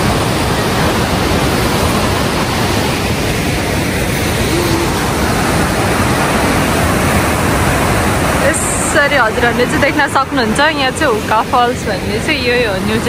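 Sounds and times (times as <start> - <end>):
rapids rushing: 0.0 - 13.0.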